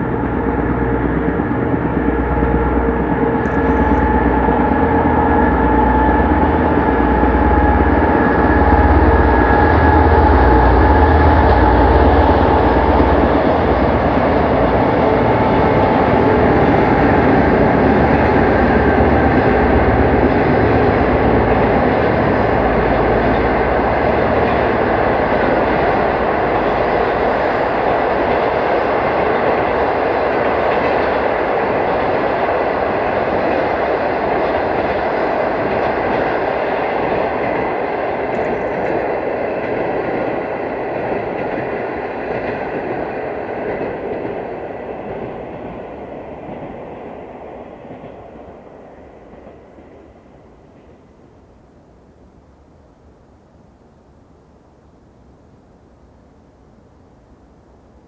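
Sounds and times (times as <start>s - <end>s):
train wheels rumbling and clacking: 0.0s - 51.0s.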